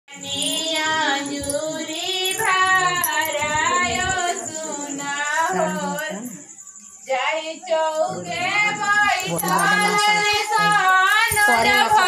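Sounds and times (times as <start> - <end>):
women singing: 0.1 - 12.0.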